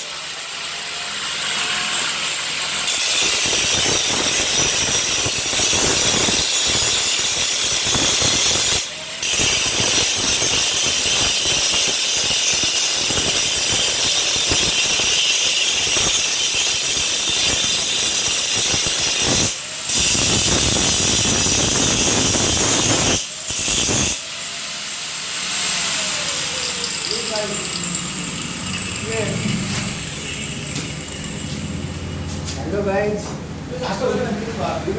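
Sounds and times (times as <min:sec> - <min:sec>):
angle grinder grinding metal: 0:00.0 - 0:34.8.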